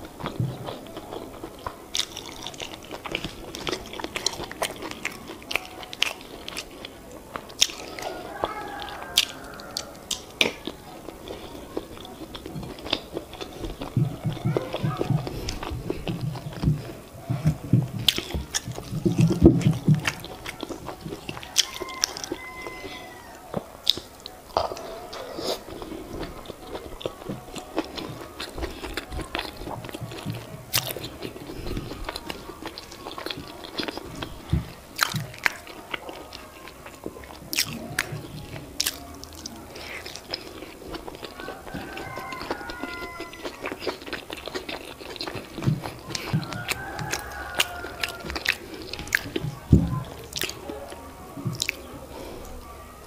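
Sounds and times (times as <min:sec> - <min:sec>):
chewing and mouth smacks: 0:00.0 - 0:51.9.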